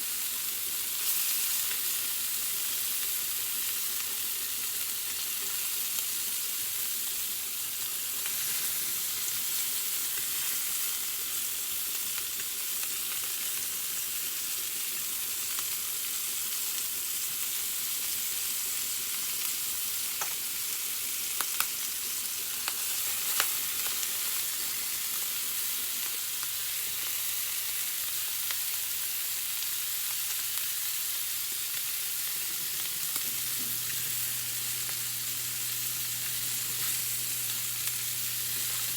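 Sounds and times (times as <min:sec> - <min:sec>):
meat sizzling in a pan: 0:00.0 - 0:38.9.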